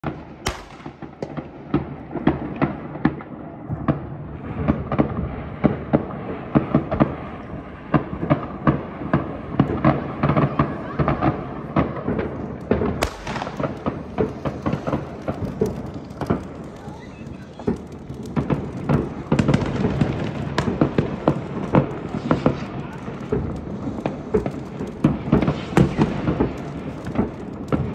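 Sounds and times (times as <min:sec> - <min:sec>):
fireworks bursts and bangs: 0:00.0 - 0:27.9
sharp close firework crack: 0:00.0 - 0:27.9
steady fireworks rumble: 0:00.0 - 0:27.9.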